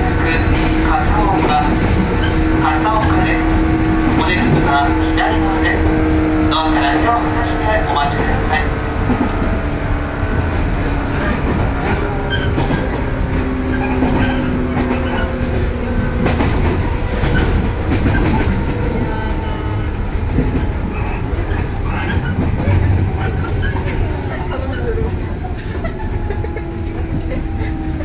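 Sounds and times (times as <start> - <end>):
train rumbling from inside: 0.0 - 28.0.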